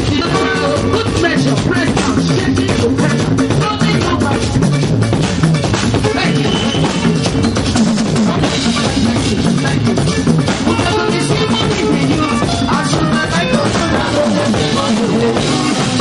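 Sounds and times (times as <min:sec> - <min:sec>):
bass line: 0:00.0 - 0:16.0
drum-kit beat: 0:00.0 - 0:16.0
live band music: 0:00.0 - 0:16.0.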